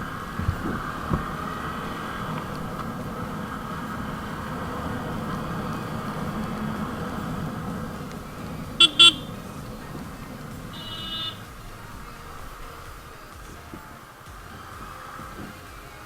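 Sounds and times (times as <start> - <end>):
vehicle horn toots: 0.0 - 14.0
road and engine noise: 0.0 - 16.0.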